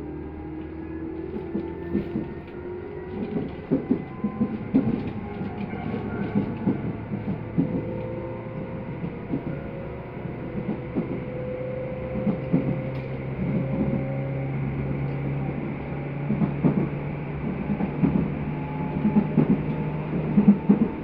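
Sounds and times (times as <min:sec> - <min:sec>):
train running hum: 0:00.0 - 0:21.0.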